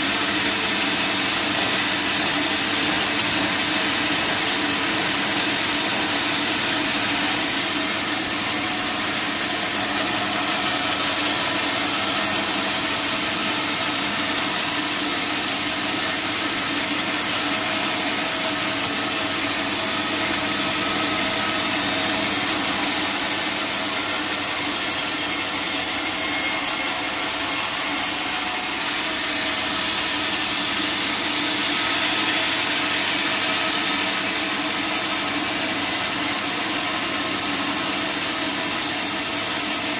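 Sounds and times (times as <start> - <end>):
saw blade cutting wood: 0.0 - 39.9.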